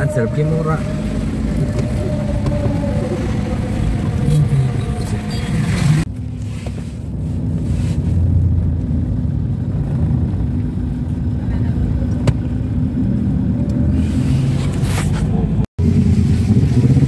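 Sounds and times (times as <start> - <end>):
car engine and traffic noise: 0.0 - 17.0
engine and road rumble in cabin: 0.0 - 17.0.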